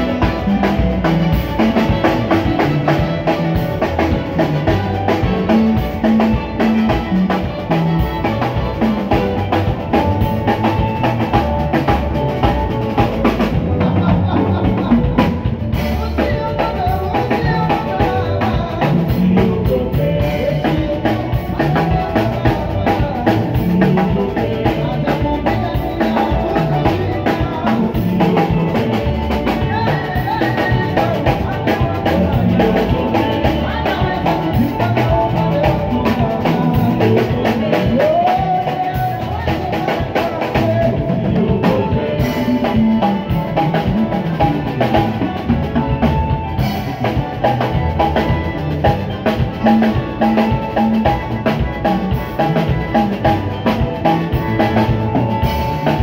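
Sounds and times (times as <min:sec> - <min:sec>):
drum kit beat: 0:00.0 - 0:56.0
electric guitar: 0:00.0 - 0:56.0.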